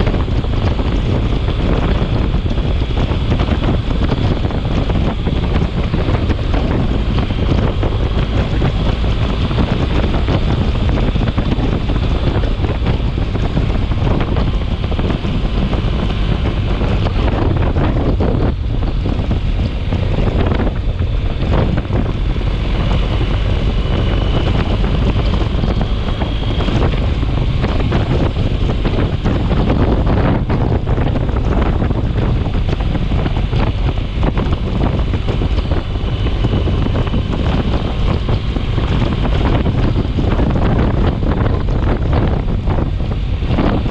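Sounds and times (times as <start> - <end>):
storm wind on microphone: 0.0 - 43.9.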